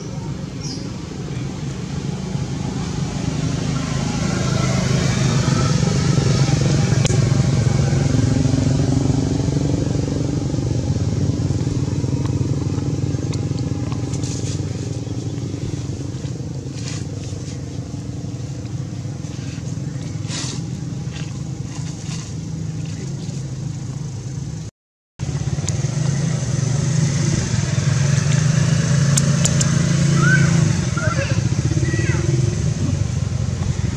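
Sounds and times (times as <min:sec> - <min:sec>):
low engine drone: 0:00.0 - 0:33.9.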